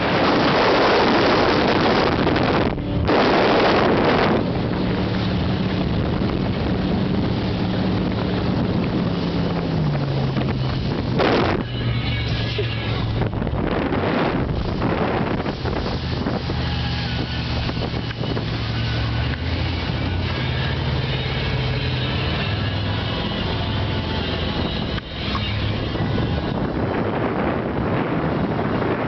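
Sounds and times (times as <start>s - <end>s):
motorboat engine running: 0.0s - 29.0s
wind buffeting microphone: 0.0s - 29.0s.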